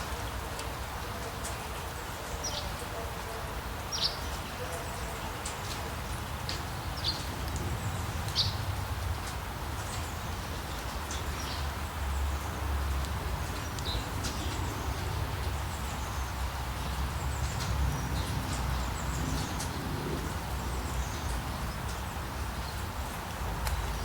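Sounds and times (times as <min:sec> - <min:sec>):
rain hissing: 0:00.0 - 0:24.0.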